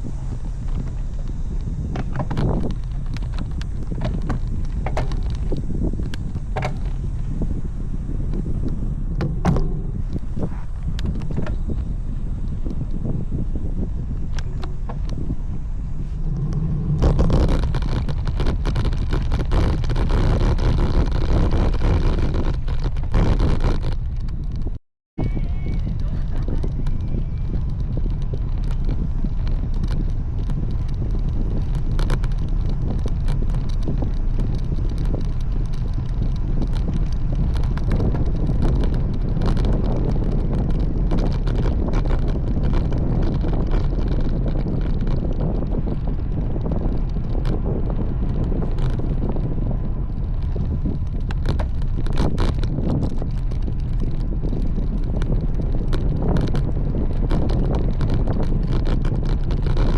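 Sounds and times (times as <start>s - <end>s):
wind rushing over microphone: 0.0s - 59.9s
clicks and rattles: 1.9s - 7.5s, 16.0s - 24.8s, 25.7s - 49.5s, 50.1s - 59.9s.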